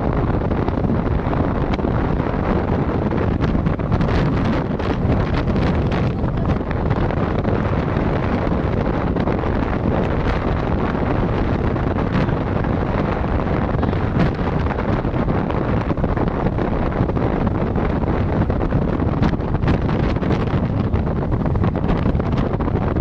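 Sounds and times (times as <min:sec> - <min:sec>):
low rumble: 0:00.0 - 0:23.0
wind buffeting microphone: 0:00.0 - 0:23.0.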